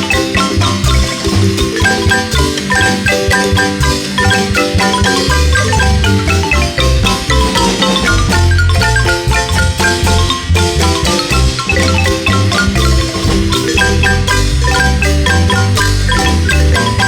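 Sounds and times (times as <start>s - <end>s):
marimba band playing: 0.0s - 17.0s.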